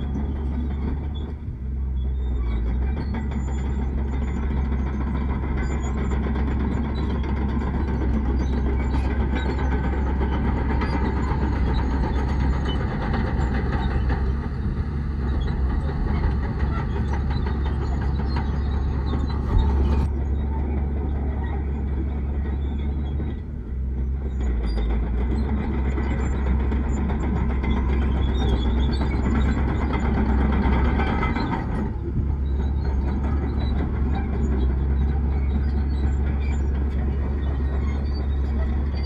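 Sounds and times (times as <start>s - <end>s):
diesel machinery engine rumbling: 0.0s - 39.0s.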